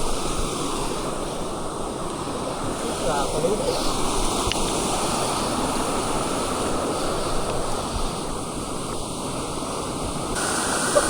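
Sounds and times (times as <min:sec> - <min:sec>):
moving water: 0:00.0 - 0:11.0
wind: 0:00.0 - 0:11.0.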